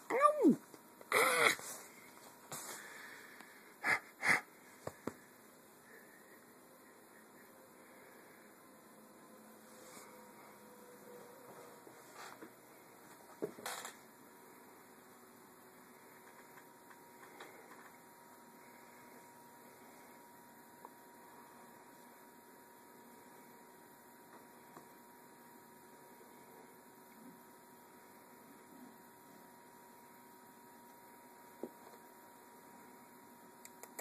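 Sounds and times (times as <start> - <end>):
faint electrical hum: 0.0 - 34.0.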